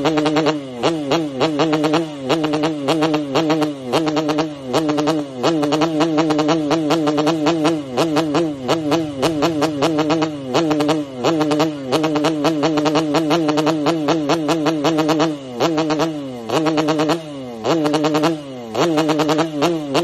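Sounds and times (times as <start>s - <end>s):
two-stroke engine revving at limiter: 0.0s - 20.0s.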